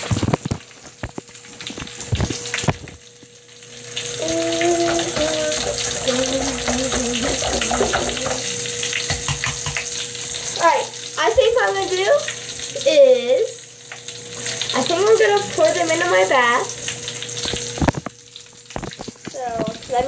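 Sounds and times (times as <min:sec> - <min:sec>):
bath crackles fizzing in water: 0:00.0 - 0:20.0.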